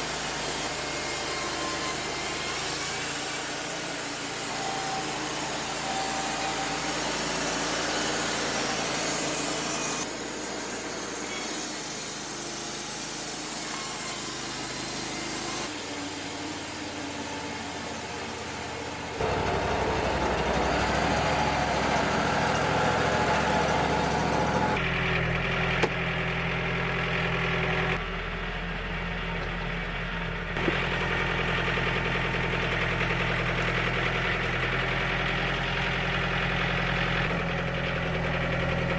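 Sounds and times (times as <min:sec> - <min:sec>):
band sawmill cutting logs: 0:00.0 - 0:38.9.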